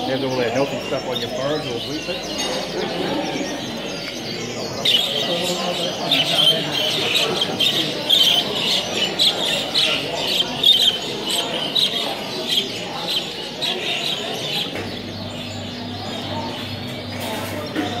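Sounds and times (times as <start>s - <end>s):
budgerigars chirping: 0.0s - 18.0s
steady low hum: 0.0s - 18.0s.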